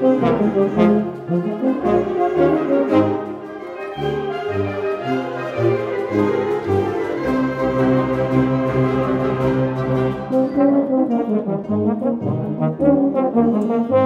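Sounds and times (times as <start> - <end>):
brass ensemble playing: 0.0 - 14.0.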